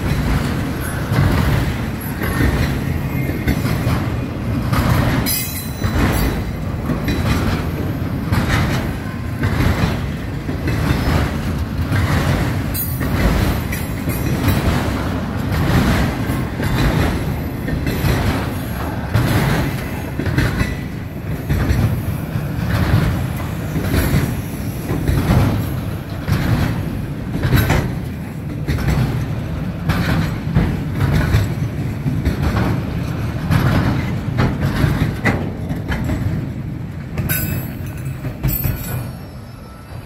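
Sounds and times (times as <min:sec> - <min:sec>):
wheels clacking on rail joints: 0:00.0 - 0:39.4
freight train rumbling: 0:00.0 - 0:40.0.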